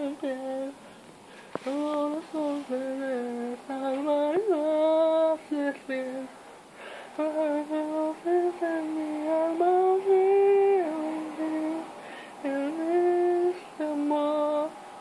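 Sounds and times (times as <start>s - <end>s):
person singing wordless melody: 0.0s - 15.0s.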